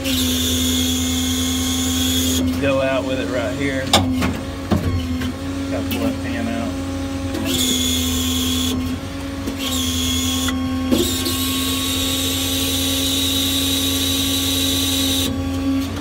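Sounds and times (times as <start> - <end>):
high hissing whine of oil: 0.0 - 15.5
hydraulic pump drone: 0.0 - 16.0.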